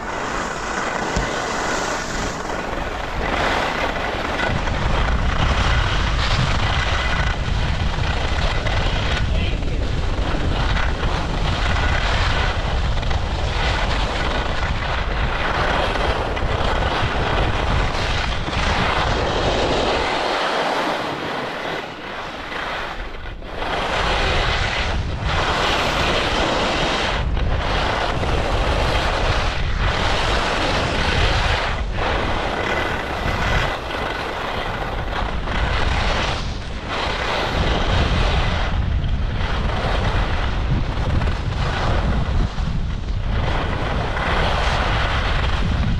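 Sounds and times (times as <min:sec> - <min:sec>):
ski edges scraping snow: 0:00.0 - 0:45.9
wind rumbling on microphone: 0:00.0 - 0:45.9.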